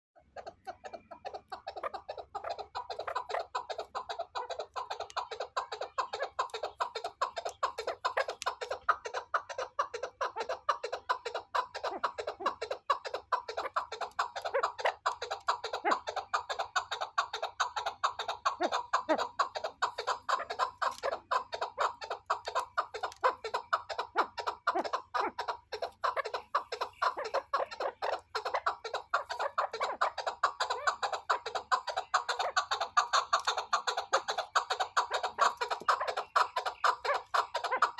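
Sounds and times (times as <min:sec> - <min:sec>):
partridge clucking call: 0:00.2 - 0:37.9.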